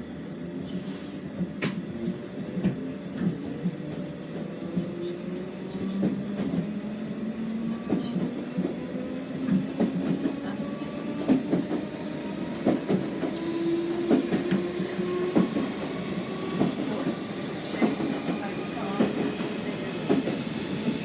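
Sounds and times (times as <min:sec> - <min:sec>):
train rumble with motor whine: 0:00.0 - 0:21.0.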